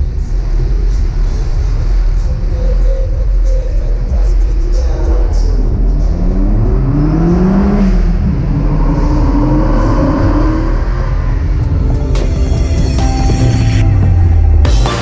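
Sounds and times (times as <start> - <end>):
car engine accelerating: 0.0 - 15.0
traffic rumble: 0.0 - 15.0.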